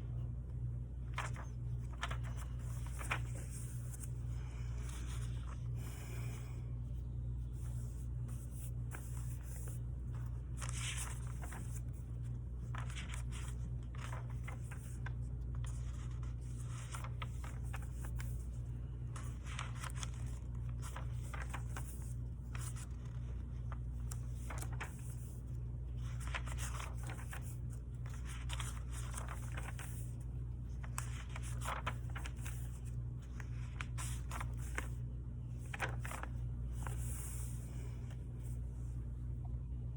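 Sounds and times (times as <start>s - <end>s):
steady low hum: 0.0s - 39.9s
paper being handled: 0.8s - 39.1s.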